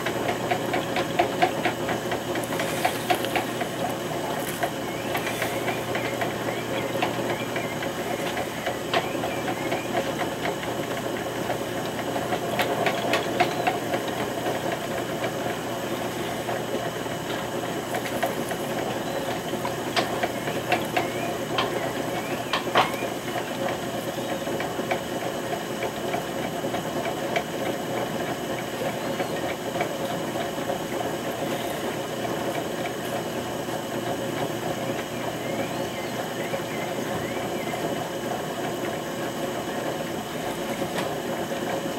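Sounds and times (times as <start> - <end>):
potter's wheel motor running: 0.0 - 41.9.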